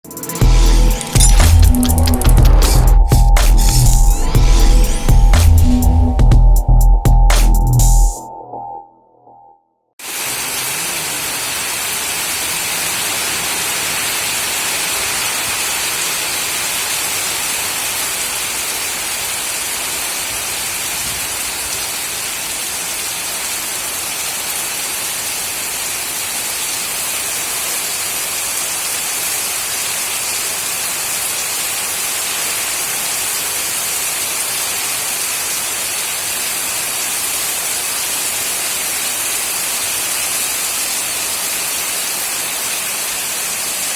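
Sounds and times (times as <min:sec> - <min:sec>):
heavy rain pouring: 0:00.3 - 0:06.6, 0:10.0 - 0:43.9.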